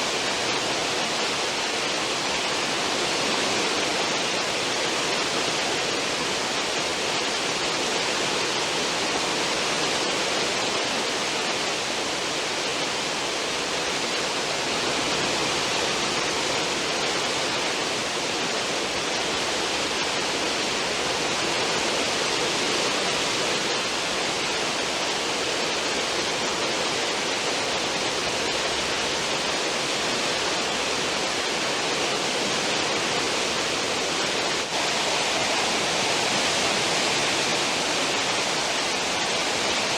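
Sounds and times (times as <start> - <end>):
churning foaming water: 0.0 - 39.9.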